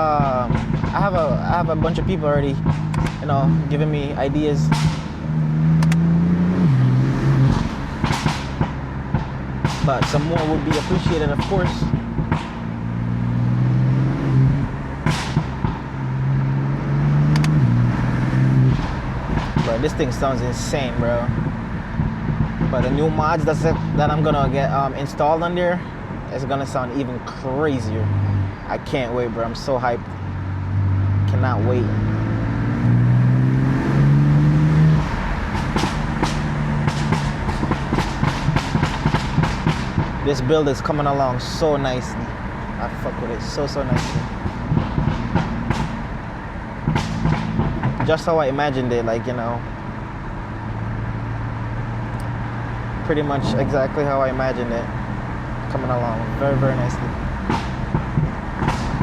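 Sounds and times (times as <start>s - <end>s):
car engine running low: 0.0s - 59.0s
sharp exhaust pop: 0.0s - 59.0s.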